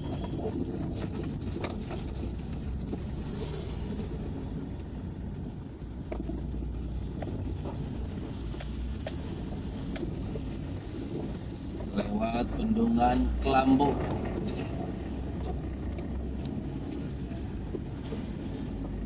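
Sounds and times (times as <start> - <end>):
vehicle engine and tyre rumble: 0.0 - 19.0.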